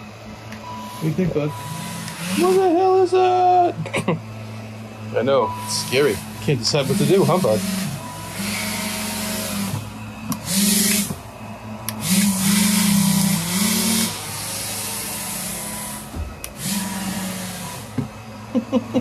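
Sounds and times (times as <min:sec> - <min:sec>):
electric fan motors whining: 0:00.0 - 0:19.0.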